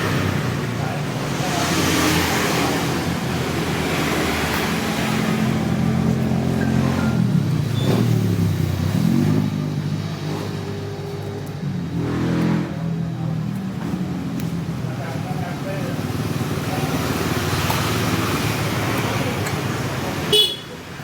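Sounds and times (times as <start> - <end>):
scooter engine running and revving: 0.0 - 21.0.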